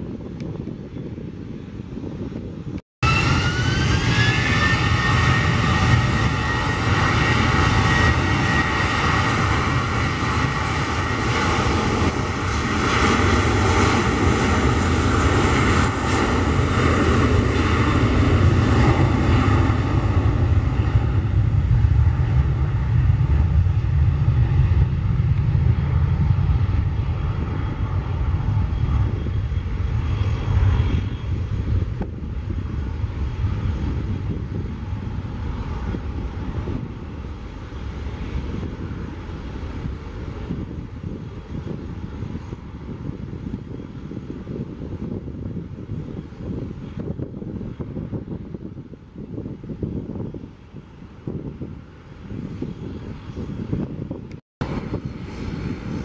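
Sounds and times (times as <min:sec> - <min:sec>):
jet engines roaring: 0:03.0 - 0:56.0.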